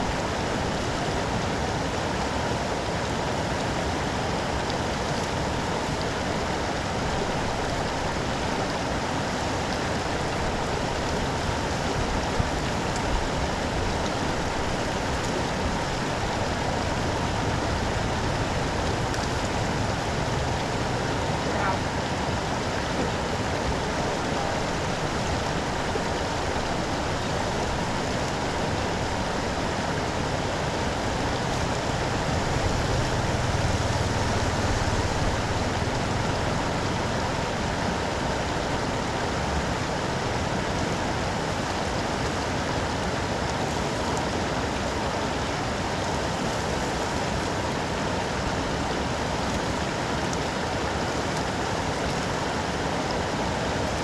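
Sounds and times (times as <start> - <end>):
floodwater rushing into drain: 0.0 - 54.0
rain falling: 0.0 - 54.0.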